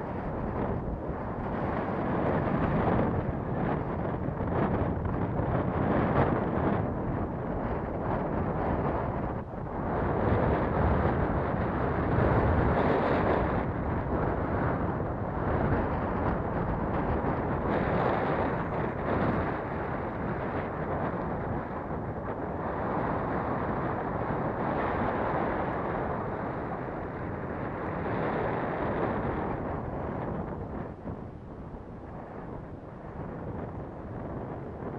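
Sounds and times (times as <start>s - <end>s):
gusty wind buffeting microphone: 0.0s - 34.9s.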